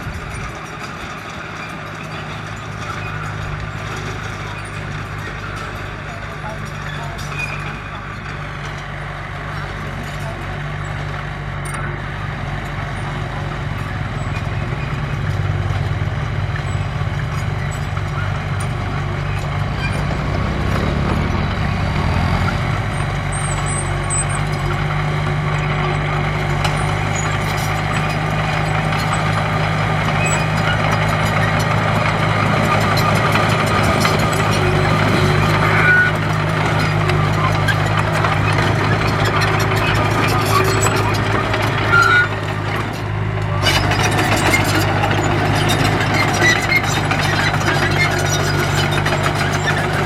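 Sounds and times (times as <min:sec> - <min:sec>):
diesel engine running under load: 0:00.0 - 0:50.0.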